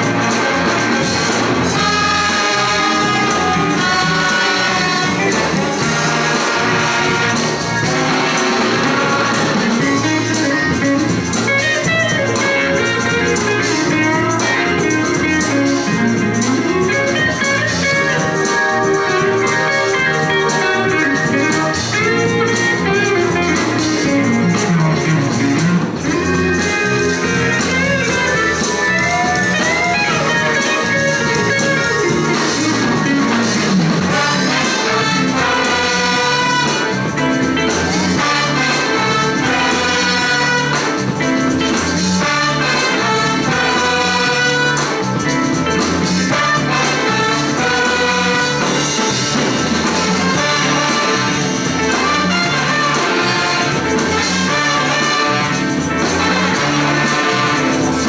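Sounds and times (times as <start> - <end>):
big band jazz: 0.0 - 58.0
electric guitar: 0.0 - 58.0.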